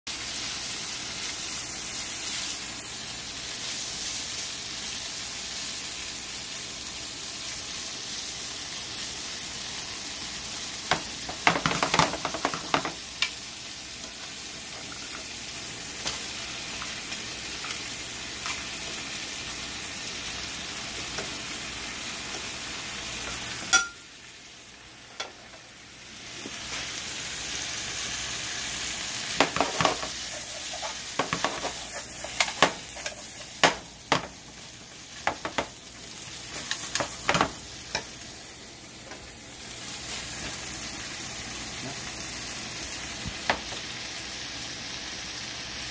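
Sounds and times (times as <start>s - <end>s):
shrimp sizzling in a frying pan: 0.1s - 45.9s.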